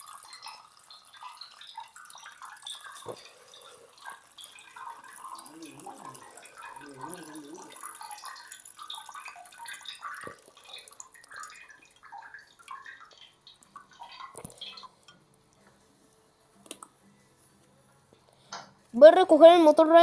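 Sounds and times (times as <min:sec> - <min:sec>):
water dripping and trickling: 0:00.0 - 0:16.9.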